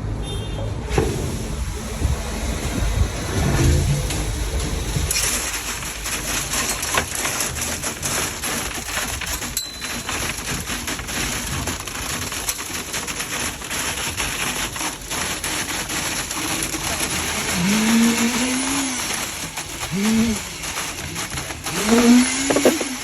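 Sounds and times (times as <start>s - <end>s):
wet concrete being pumped: 0.8s - 23.0s.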